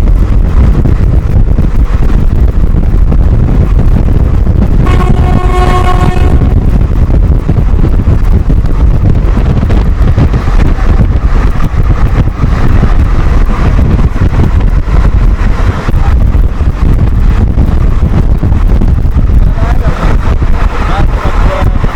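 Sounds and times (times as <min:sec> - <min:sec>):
train rumbling at speed: 0:00.0 - 0:21.9
wind buffeting microphone: 0:00.0 - 0:21.9.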